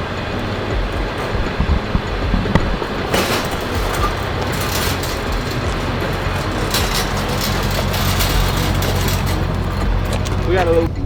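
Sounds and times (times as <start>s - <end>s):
vehicle rumble with road noise: 0.0s - 11.0s.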